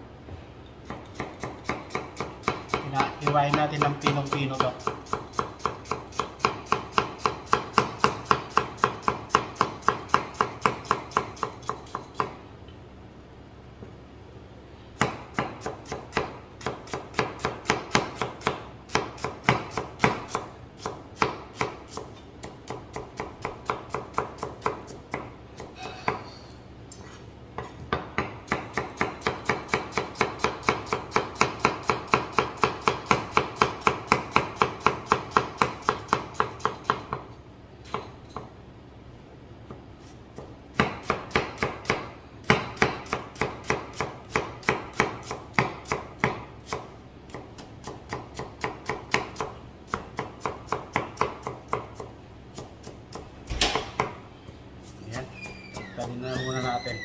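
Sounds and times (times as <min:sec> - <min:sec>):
knife slicing onion on board: 0:00.8 - 0:12.4, 0:15.0 - 0:26.2, 0:26.9 - 0:38.6, 0:39.7 - 0:54.2.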